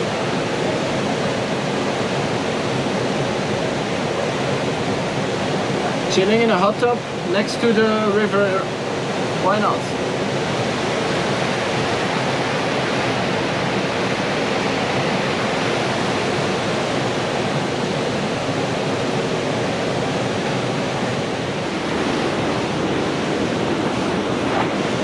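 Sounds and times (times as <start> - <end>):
river rushing over rocks: 0.0 - 25.0.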